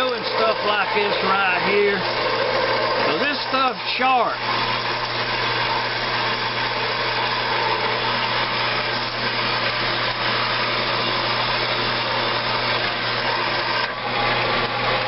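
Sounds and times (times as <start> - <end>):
bandsaw cutting metal pipe: 0.0 - 15.0
motor hum: 0.0 - 15.0.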